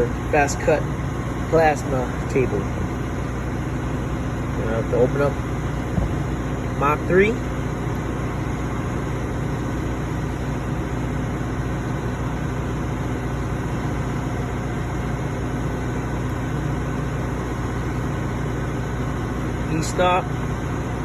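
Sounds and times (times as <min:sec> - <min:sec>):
machinery drone: 0:00.0 - 0:21.0.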